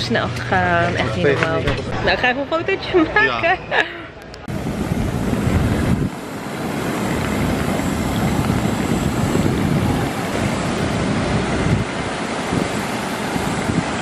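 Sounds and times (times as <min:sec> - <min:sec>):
jet airliner rush and whine: 0:01.8 - 0:14.0.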